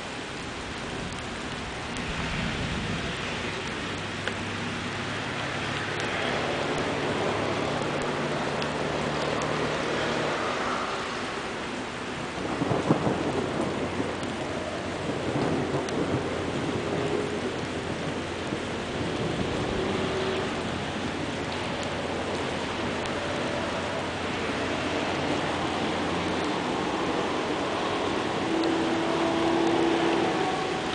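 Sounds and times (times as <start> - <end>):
rain falling on water: 0.0 - 30.9.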